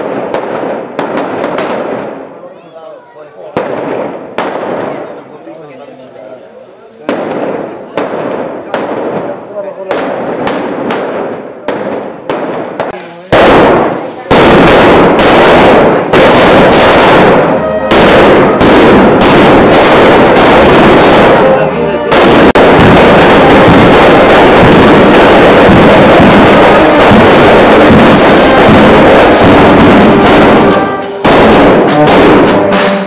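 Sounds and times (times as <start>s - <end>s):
firecrackers banging: 0.0s - 33.0s
faint brass band: 1.9s - 33.0s.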